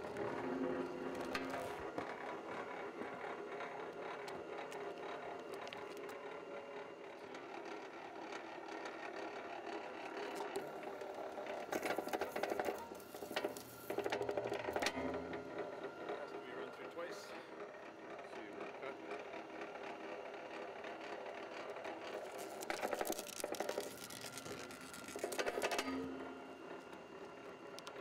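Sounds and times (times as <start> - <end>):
wire stripper motor whirring: 0.0 - 7.6, 9.8 - 28.0
rapid clicking and crackling: 1.0 - 16.4, 18.3 - 26.0.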